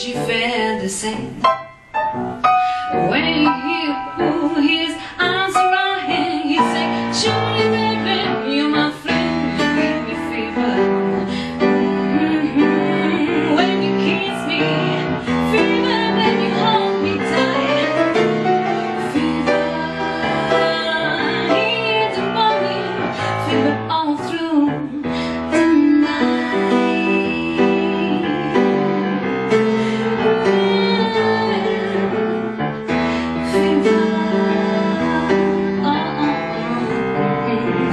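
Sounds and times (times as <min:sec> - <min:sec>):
woman singing: 0:00.0 - 0:01.5, 0:02.4 - 0:37.9
grand piano accompaniment: 0:00.0 - 0:37.9.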